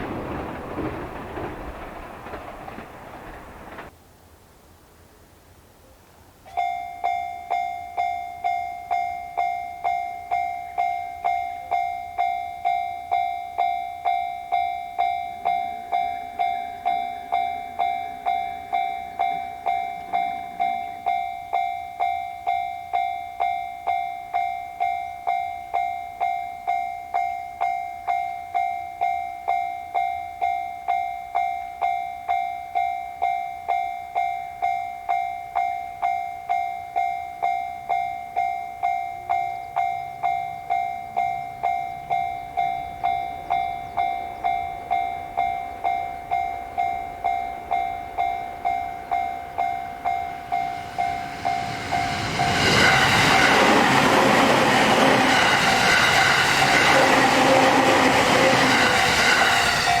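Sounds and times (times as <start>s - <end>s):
railroad crossing warning bell: 6.4s - 60.0s.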